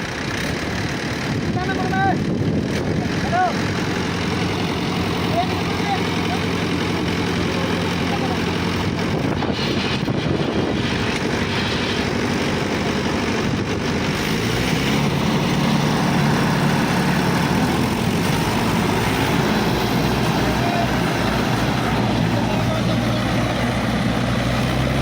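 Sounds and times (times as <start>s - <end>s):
diesel tractor engines under load: 0.0s - 25.0s.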